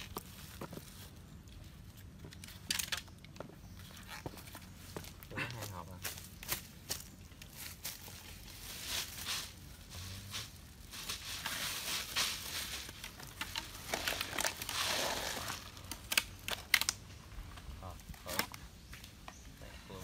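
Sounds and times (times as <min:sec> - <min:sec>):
crinkling and rustling: 0:00.0 - 0:19.4.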